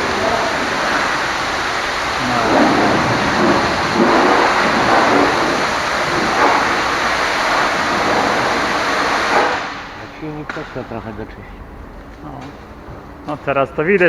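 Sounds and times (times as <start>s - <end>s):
high-pressure water spray: 0.0s - 11.3s.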